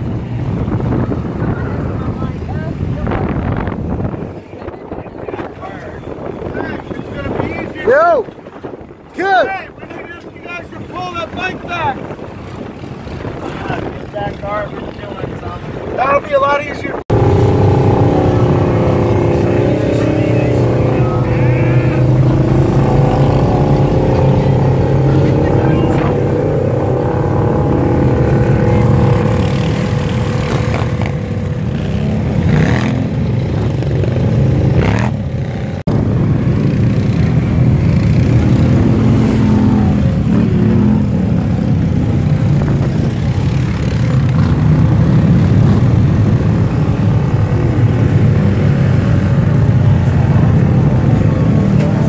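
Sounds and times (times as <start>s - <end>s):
off-road vehicle engines running: 0.0s - 52.0s.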